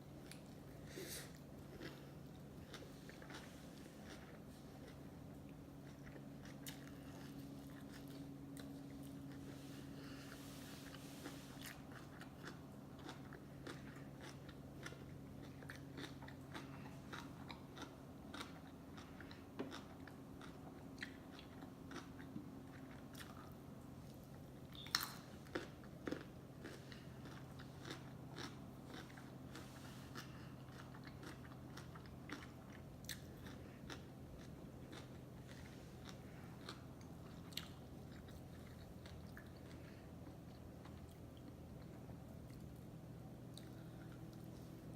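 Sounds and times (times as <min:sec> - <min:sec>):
faint low hum: 0:00.0 - 0:44.9
chewing and biting food: 0:00.1 - 0:44.9.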